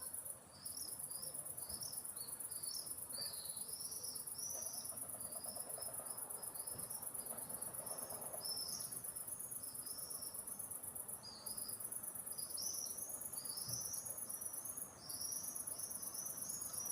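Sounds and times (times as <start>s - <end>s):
high pulsing insect trill: 0.0s - 16.9s
songbird chirping: 0.0s - 16.9s.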